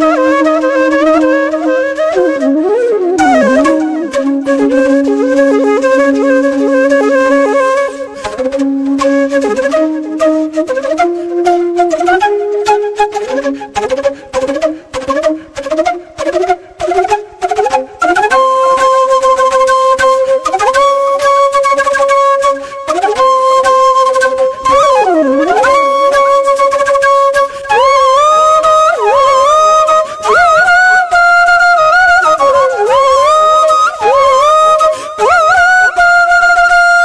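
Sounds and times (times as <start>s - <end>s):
solo flute melody: 0.0s - 37.0s.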